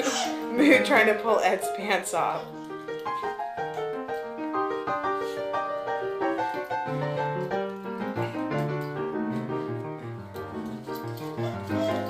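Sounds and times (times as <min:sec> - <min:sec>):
brisk piano melody: 0:00.0 - 0:12.0.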